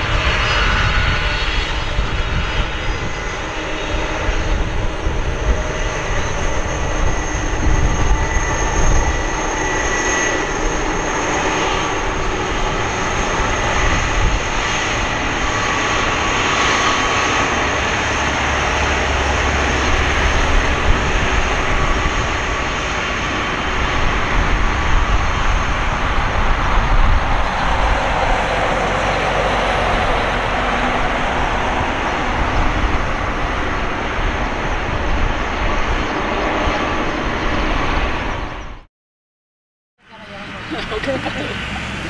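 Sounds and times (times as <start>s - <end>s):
jet engine roar with whine: 0.0s - 38.9s, 40.0s - 42.0s.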